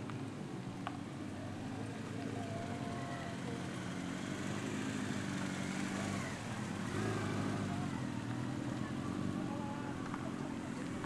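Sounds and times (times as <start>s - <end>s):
car engines passing slowly: 0.0s - 11.0s
crowd voices: 0.0s - 11.0s.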